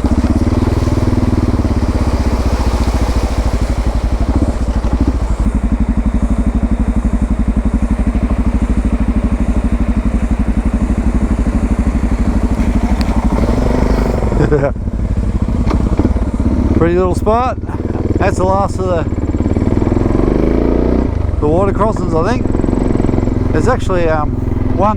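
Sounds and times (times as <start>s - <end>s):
motorcycle engine thumping: 0.0s - 20.2s, 20.8s - 24.9s.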